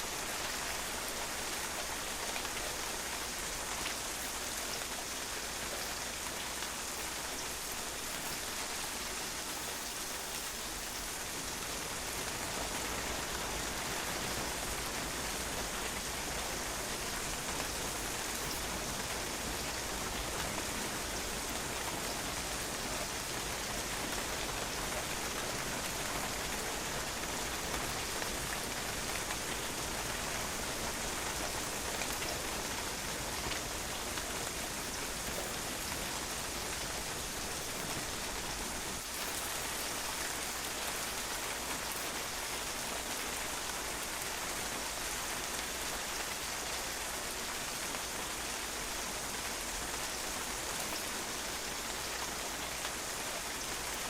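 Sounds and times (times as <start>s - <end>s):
rain pattering on a patio: 0.0s - 54.0s.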